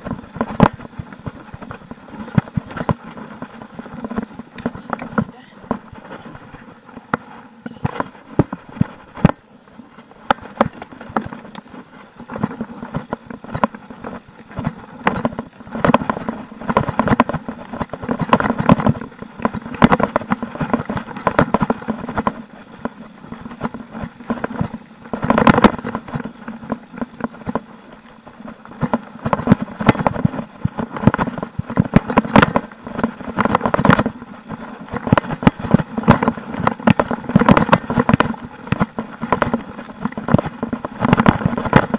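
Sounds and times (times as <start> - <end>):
bike knocking and rattling: 0.0 - 41.9
bike tyres crunching on dirt: 0.0 - 41.9.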